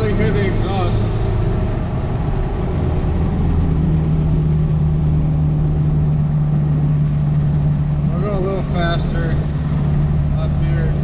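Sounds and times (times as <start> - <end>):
diesel truck engine drone: 0.0 - 11.0
road and wind noise: 0.0 - 11.0.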